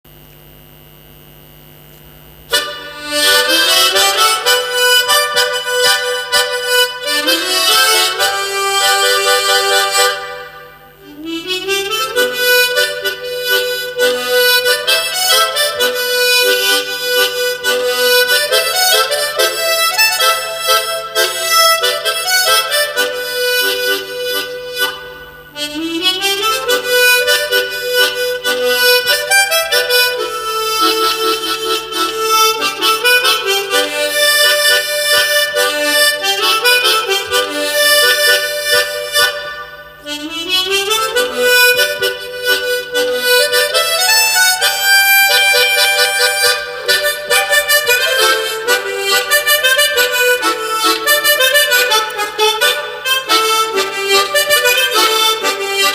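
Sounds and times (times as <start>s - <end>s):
harmonica melody: 2.5s - 55.9s.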